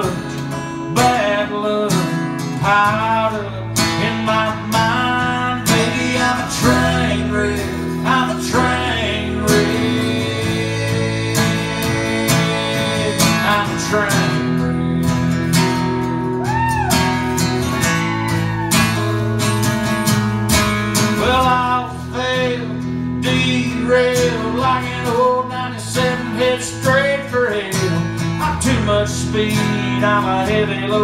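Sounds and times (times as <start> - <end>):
guitar melody with bending notes: 0.0 - 31.0
strummed acoustic guitar chords: 0.0 - 31.0.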